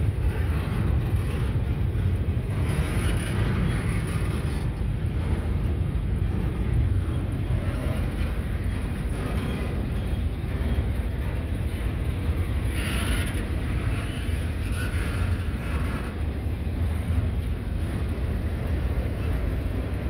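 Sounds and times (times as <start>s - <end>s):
train wheels rumbling on rail: 0.0s - 20.0s
wind buffeting microphone: 0.0s - 20.0s.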